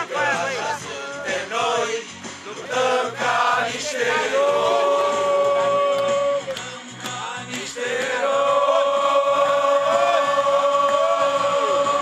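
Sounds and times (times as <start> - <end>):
crowd singing a chant: 0.0 - 12.0.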